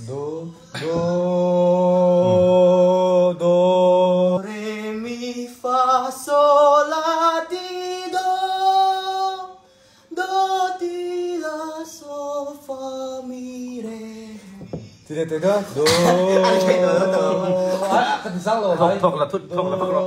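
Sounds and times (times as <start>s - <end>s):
man singing a scale: 0.0s - 18.2s.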